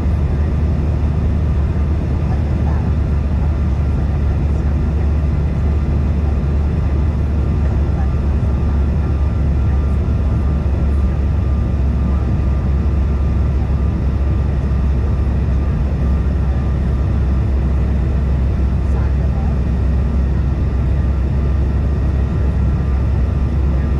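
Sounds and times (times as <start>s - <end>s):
airliner cabin rumble: 0.0s - 23.9s.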